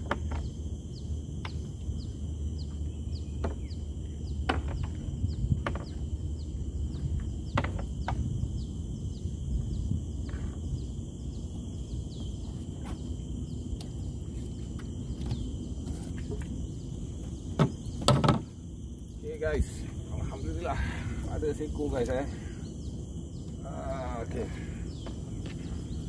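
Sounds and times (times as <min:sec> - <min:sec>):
insect drone: 0:00.0 - 0:26.0
steady low rumble: 0:00.0 - 0:26.0.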